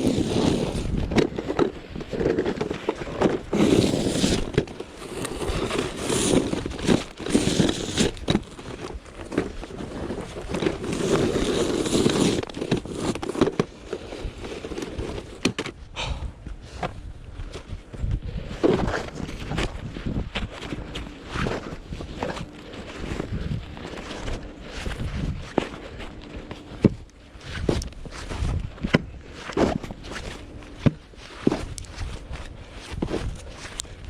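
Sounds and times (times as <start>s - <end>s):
snow crunching and scraping: 0.0s - 15.5s, 16.6s - 34.0s.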